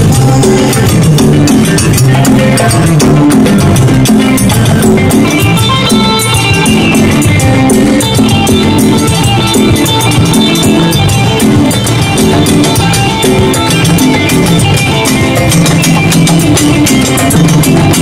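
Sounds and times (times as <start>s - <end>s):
electric guitar playing: 0.0s - 18.0s.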